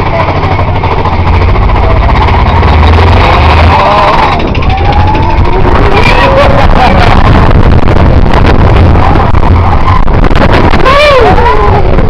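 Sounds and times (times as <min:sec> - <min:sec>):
roller coaster rumbling on track: 0:00.0 - 0:12.0
wind noise on microphone: 0:00.0 - 0:12.0.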